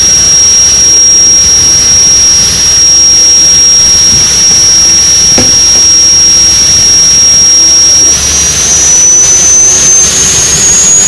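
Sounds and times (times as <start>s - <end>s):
high-pitched turbine whine: 0.0s - 11.0s.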